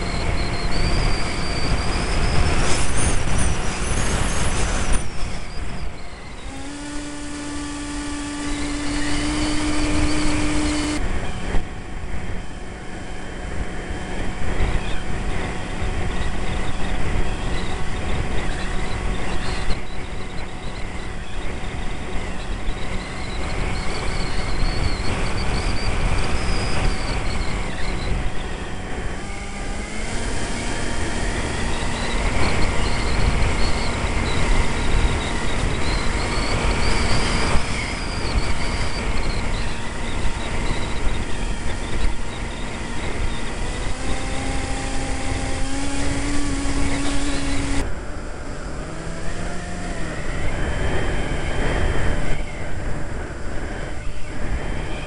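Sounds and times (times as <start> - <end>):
electric motor whine: 0.0 - 55.0
wind rush on microphone: 0.0 - 55.0.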